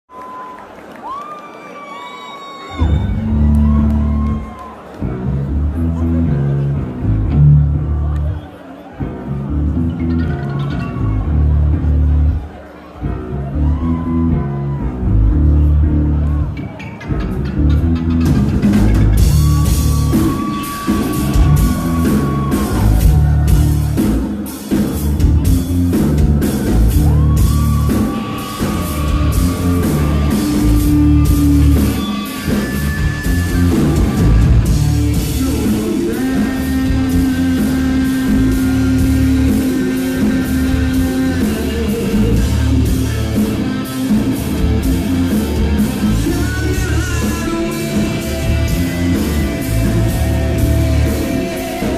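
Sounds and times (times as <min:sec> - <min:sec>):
loud live rock band: 0:01.8 - 0:51.9.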